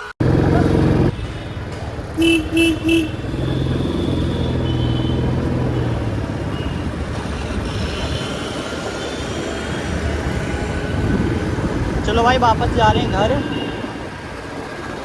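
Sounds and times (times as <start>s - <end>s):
horn honks: 0.0s - 14.8s
motorcycle engine running: 0.2s - 15.0s.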